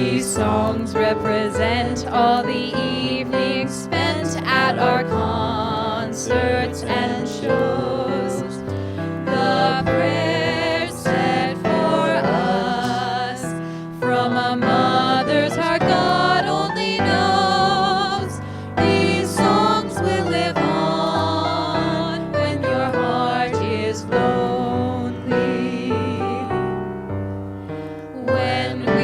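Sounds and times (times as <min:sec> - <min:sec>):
instrumental accompaniment: 0:03.8 - 0:29.0.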